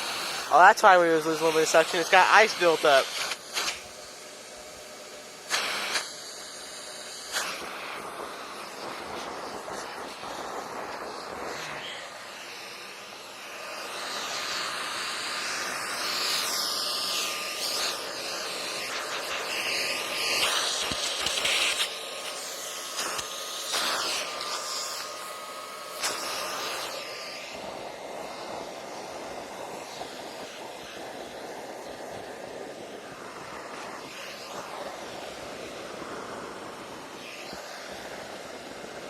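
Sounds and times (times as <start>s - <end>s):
shop vacuum sucking up snow: 0.0s - 39.0s.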